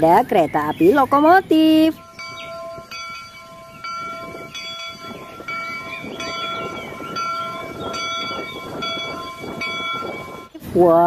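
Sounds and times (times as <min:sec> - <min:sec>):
train rumbling: 0:00.9 - 0:10.8.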